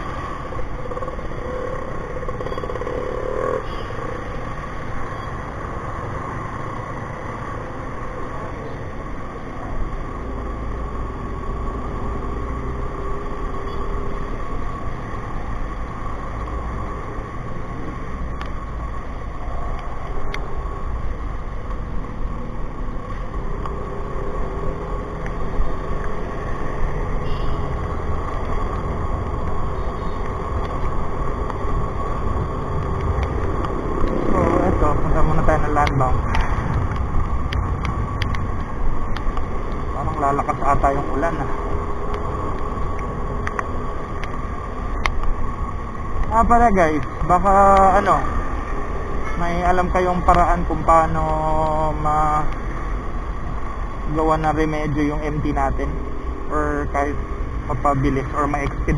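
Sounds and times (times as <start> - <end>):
road noise on wet road: 0.0 - 58.9.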